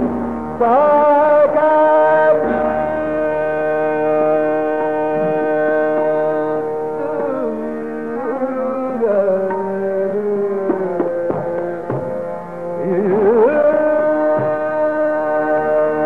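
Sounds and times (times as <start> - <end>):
tabla strokes: 0.0 - 16.0
tanpura drone: 0.0 - 16.0
man singing classical vocals: 0.6 - 16.0.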